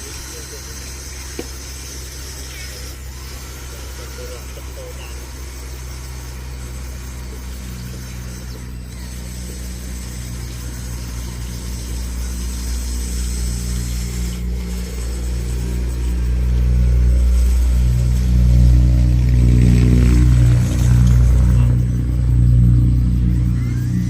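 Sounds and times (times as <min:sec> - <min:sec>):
toy vehicle motor droning: 0:00.0 - 0:24.0.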